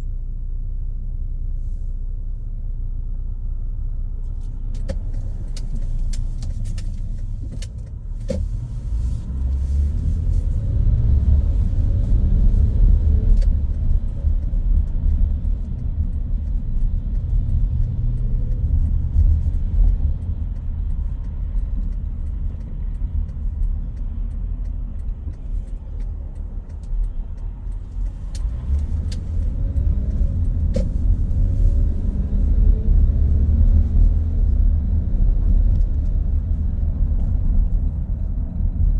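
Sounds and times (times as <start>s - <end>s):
car engine: 0.0s - 38.9s
tyre and road noise: 4.2s - 38.9s.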